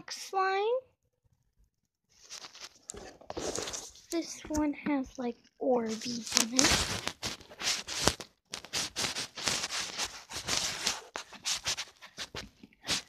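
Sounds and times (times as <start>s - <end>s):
slime crackling and squelching: 2.1s - 13.0s.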